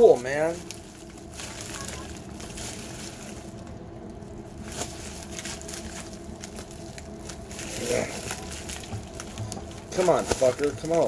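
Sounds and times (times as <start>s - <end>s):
low room hum: 0.0s - 11.0s
plastic mailer crinkling: 0.0s - 11.0s.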